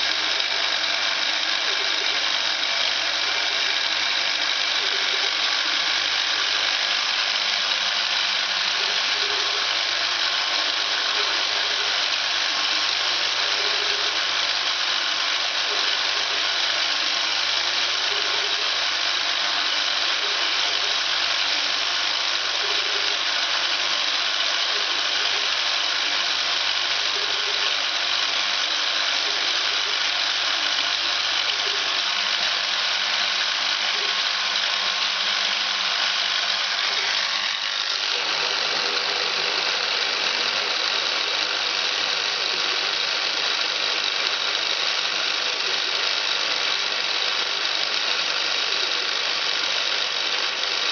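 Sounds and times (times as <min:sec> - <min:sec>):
milling machine cutting: 0:00.0 - 0:50.9.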